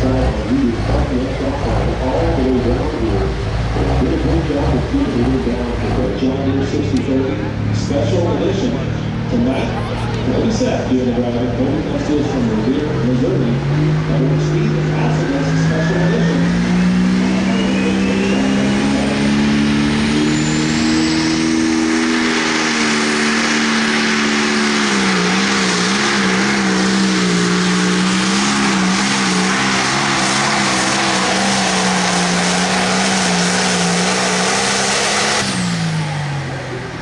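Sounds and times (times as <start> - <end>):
diesel engine high-pitched drone: 0.0 - 37.0.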